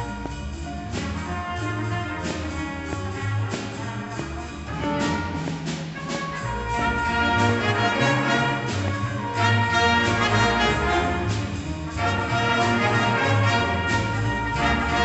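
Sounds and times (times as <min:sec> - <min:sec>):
jazz big band playing blues: 0:00.0 - 0:15.0
saxophones: 0:00.0 - 0:15.0.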